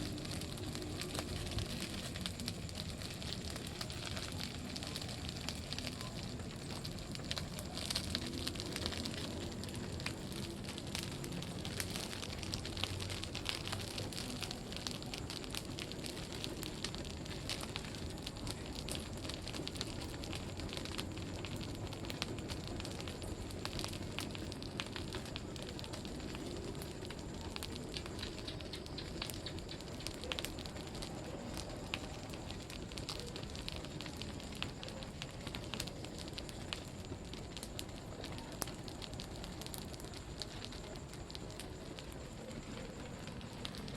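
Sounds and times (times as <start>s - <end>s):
bonfire crackling: 0.0s - 43.9s.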